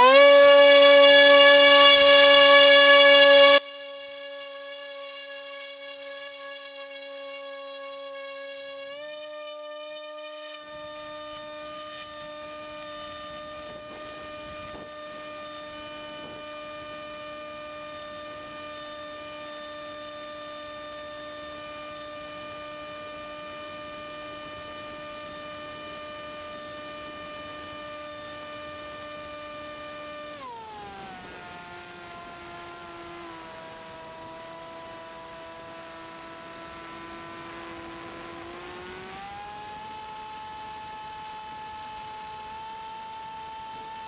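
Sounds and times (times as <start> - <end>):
electric motor and propeller whine: 0.0 - 44.0.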